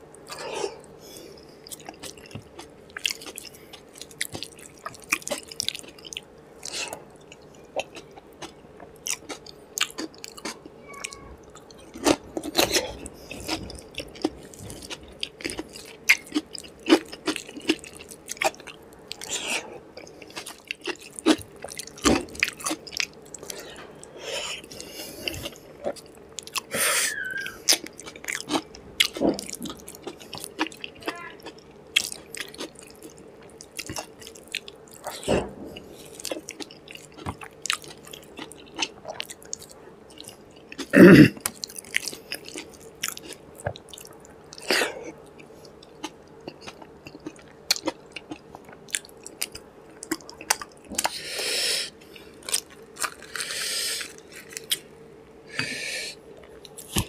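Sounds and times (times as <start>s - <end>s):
faint steady hum: 0.0s - 57.0s
person chewing with mouth clicks: 1.6s - 51.2s, 51.9s - 54.9s, 55.5s - 57.0s.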